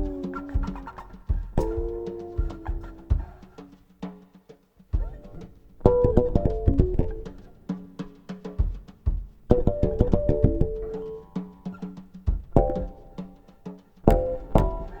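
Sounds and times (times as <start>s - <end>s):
keyboard and percussion music: 0.0s - 15.0s.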